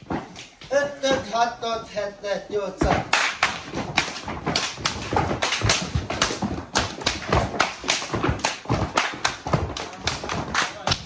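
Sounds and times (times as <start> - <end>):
feet stamping on wooden floor: 0.0 - 1.4, 2.8 - 11.0.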